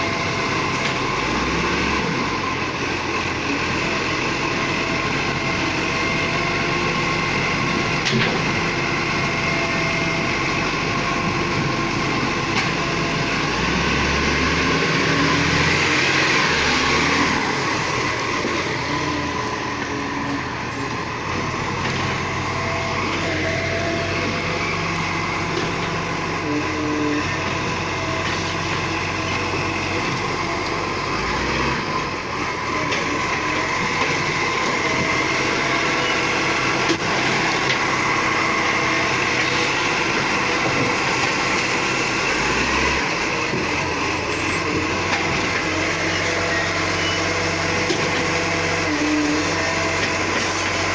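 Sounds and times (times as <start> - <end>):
garbage truck engine running: 0.0 - 50.9.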